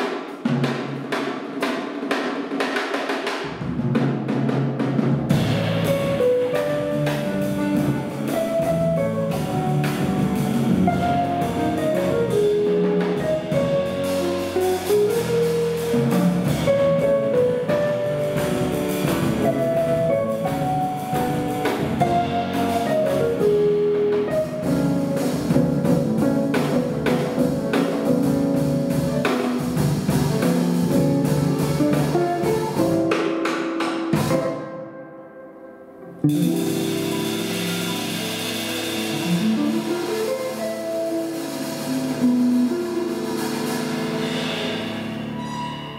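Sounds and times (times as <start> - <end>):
jazz band playing: 3.5 - 45.9.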